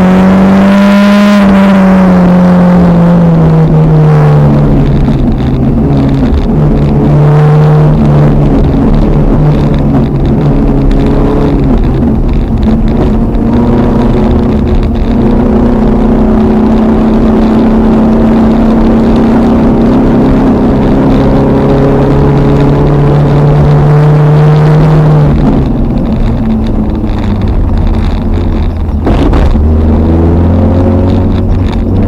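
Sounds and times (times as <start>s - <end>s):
car engine running under load: 0.0s - 32.0s
heavy low rumble: 0.0s - 32.0s.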